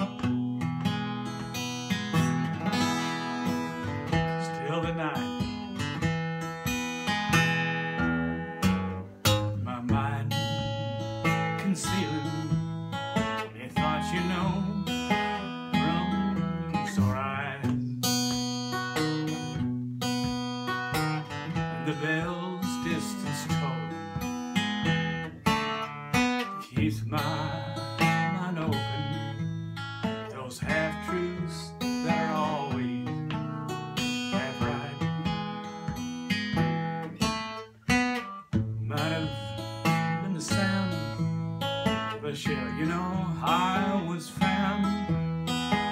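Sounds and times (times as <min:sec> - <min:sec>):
acoustic guitar strummed chords: 0:00.0 - 0:45.9.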